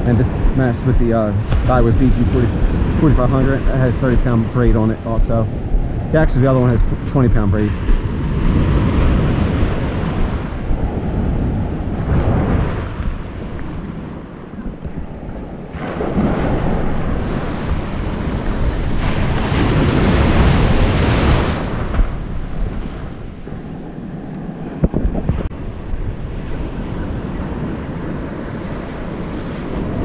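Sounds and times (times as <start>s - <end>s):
ocean surf breaking: 0.0s - 30.0s
wind rumbling on microphone: 0.0s - 30.0s.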